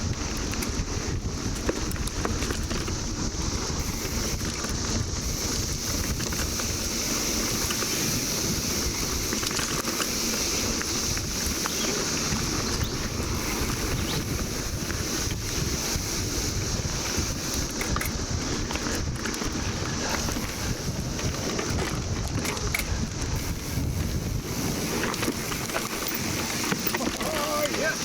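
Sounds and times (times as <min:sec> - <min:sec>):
cicadas chorus: 0:00.0 - 0:28.0
mountain bike rumbling on dirt: 0:00.0 - 0:28.0
wind buffeting microphone: 0:00.0 - 0:28.0.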